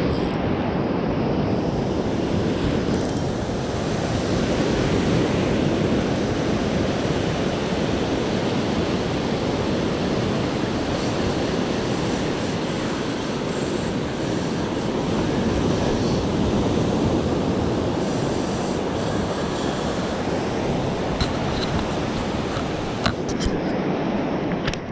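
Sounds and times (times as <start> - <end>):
ocean waves breaking: 0.0 - 24.9.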